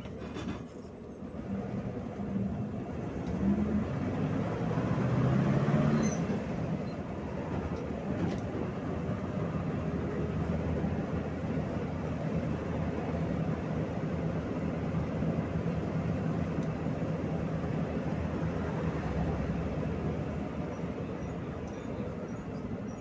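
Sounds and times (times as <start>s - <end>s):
bus engine pulling under load: 0.0s - 23.0s.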